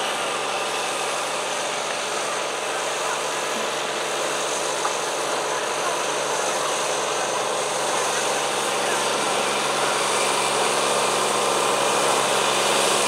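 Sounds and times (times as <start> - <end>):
diesel tractor engine under load: 0.0 - 13.0.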